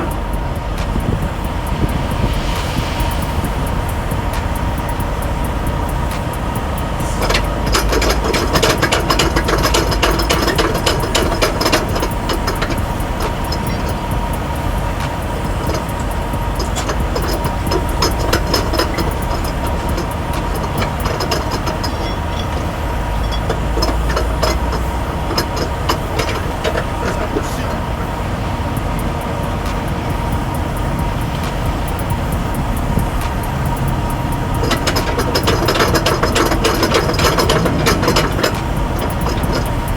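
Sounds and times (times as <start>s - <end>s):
low engine rumble: 0.0s - 39.9s
rapid ratcheting clicks: 0.0s - 39.9s
steady high hum: 0.0s - 39.9s.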